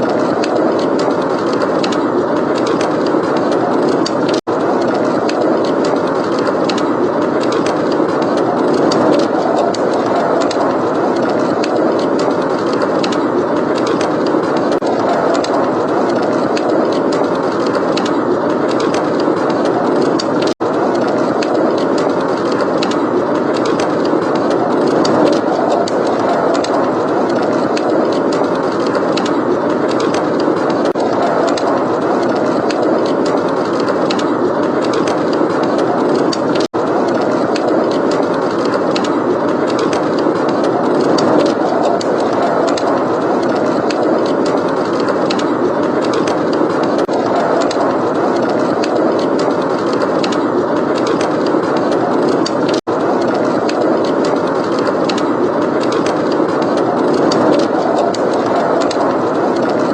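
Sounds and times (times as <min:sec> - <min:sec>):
blizzard wind blowing: 0:00.0 - 0:59.9
wood fire crackling: 0:00.0 - 0:59.9.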